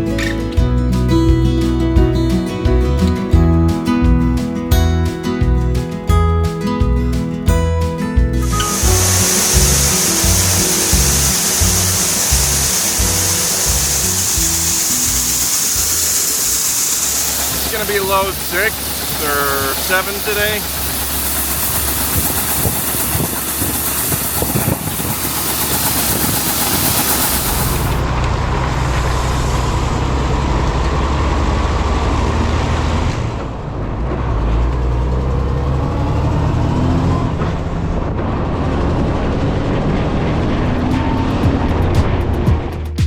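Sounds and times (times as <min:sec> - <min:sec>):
heavy vehicle engine running: 0:00.0 - 0:43.0
road and wind noise: 0:08.1 - 0:42.8.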